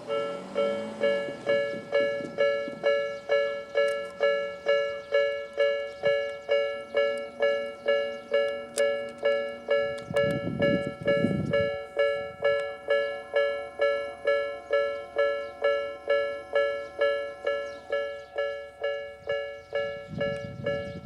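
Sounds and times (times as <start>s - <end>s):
level crossing two-tone bell: 0.0s - 21.0s.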